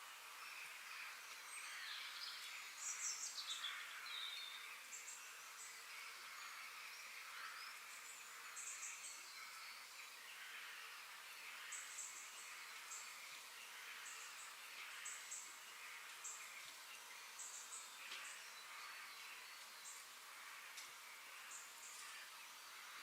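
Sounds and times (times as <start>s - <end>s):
steady hiss: 0.0s - 23.0s
birds chirping and singing: 0.4s - 23.0s.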